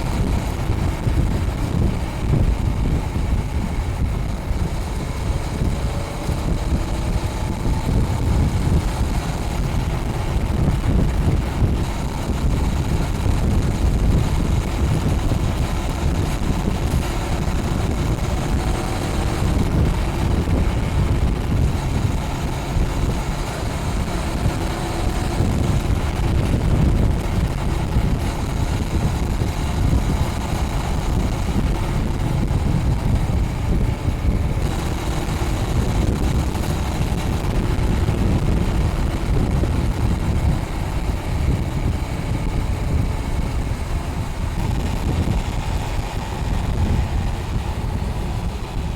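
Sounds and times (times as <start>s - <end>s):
motorcycle engine riding: 0.0s - 48.9s
wind noise on microphone: 0.0s - 48.9s.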